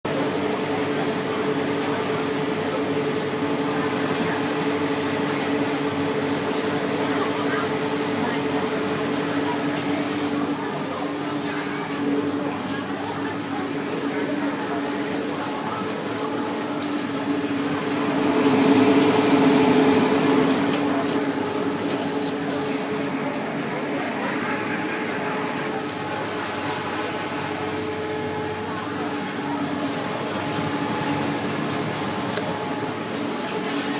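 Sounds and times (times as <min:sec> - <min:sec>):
cooling fans whooshing: 0:00.1 - 0:33.9.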